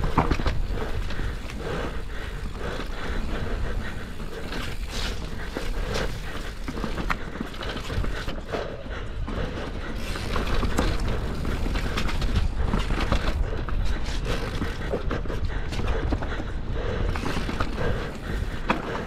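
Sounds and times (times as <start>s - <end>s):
bike clicks knocks and rattles: 0.0s - 19.0s
wind buffeting microphone: 0.0s - 19.0s.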